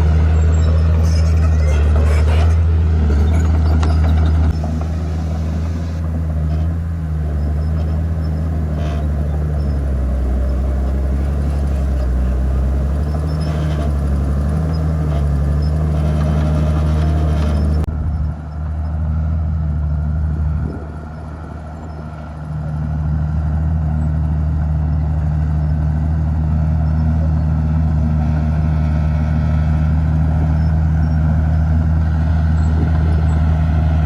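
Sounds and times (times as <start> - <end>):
heavy diesel engine under load: 0.0 - 34.0.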